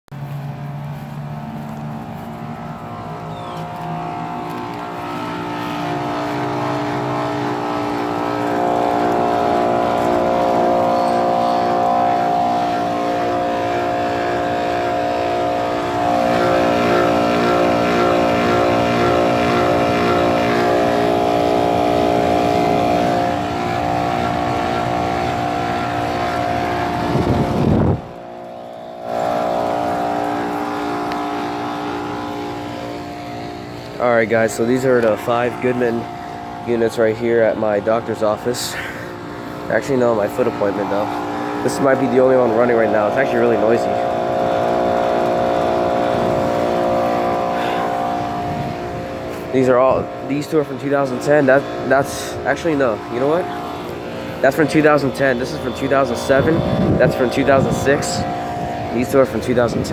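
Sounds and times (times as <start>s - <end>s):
condenser fan: 0.2s - 59.9s
air conditioner compressor hum: 0.4s - 59.9s.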